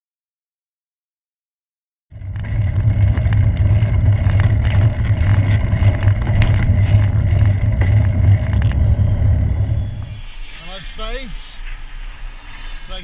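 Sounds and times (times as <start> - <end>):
low rumble of road noise: 2.1 - 13.0.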